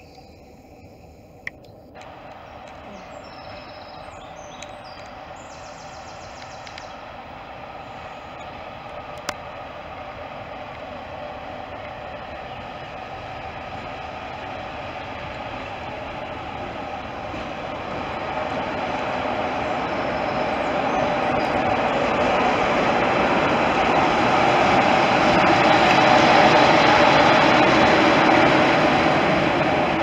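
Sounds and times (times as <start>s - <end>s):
diesel locomotive engine running: 0.0s - 30.0s.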